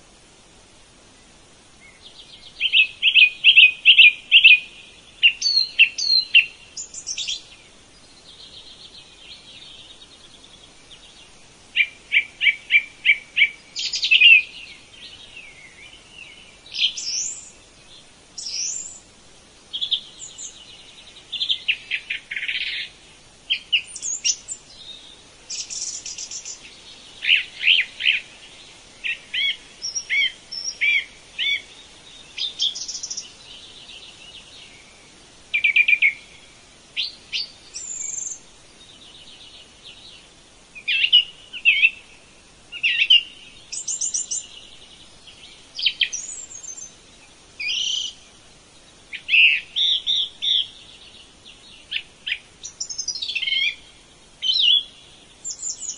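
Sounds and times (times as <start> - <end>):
birds singing and calling: 1.2 - 55.9.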